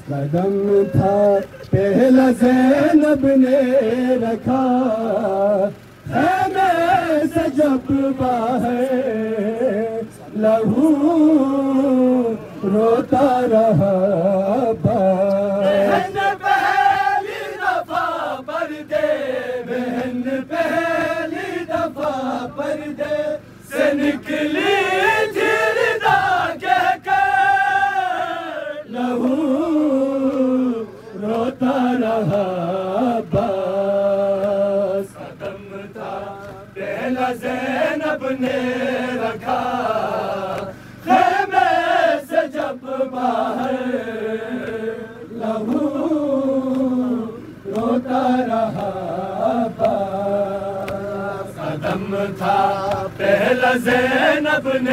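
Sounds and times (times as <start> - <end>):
voices chanting a lament: 0.0 - 54.9.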